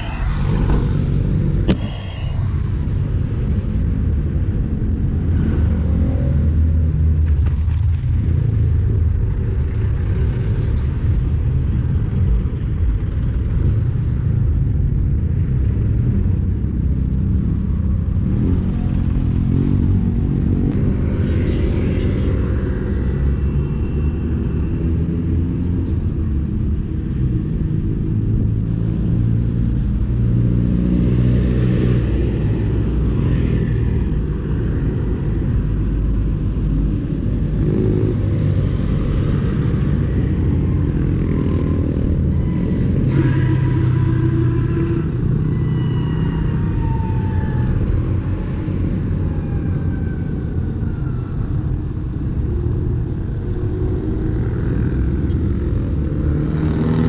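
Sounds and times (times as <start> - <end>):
cars and motorcycles passing: 0.0 - 57.0
road traffic: 0.0 - 57.0.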